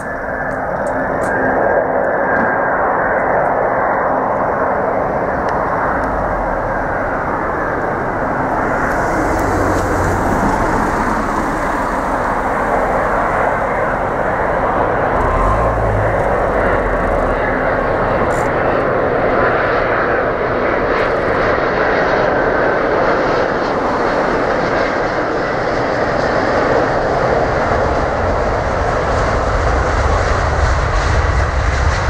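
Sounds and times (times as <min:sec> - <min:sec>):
deep aircraft rumble: 0:00.0 - 0:32.0
jet engine rush: 0:00.0 - 0:32.0.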